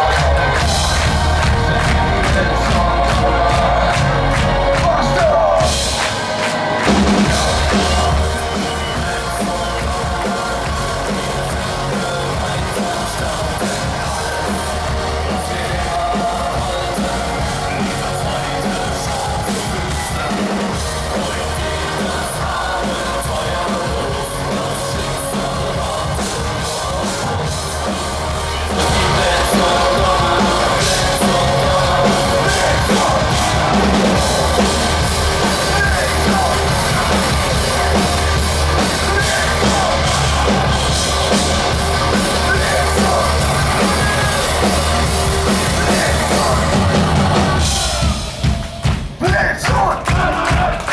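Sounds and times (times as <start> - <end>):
industrial metal band playing live: 0.0 - 50.8
driving drum kit: 0.0 - 50.9.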